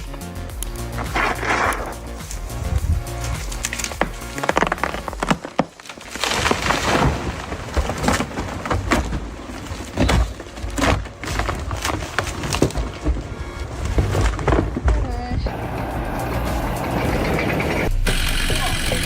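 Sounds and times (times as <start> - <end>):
wood cracking and splintering: 0.0 - 15.3.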